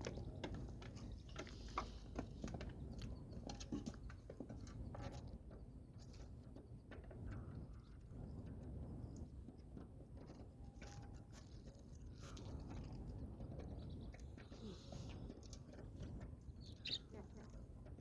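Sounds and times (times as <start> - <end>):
birds pecking at feed: 0.0 - 18.0.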